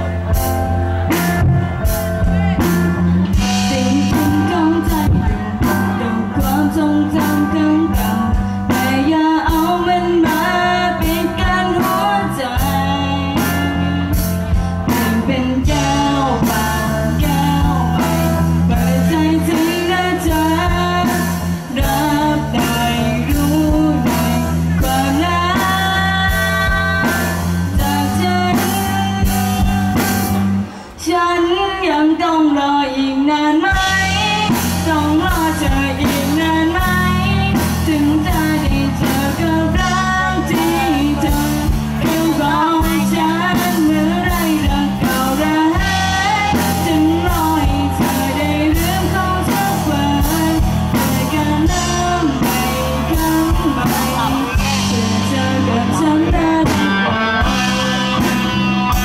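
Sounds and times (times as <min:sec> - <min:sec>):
rock band playing: 0:00.0 - 0:31.5, 0:33.5 - 0:59.0
person singing: 0:00.0 - 0:59.0.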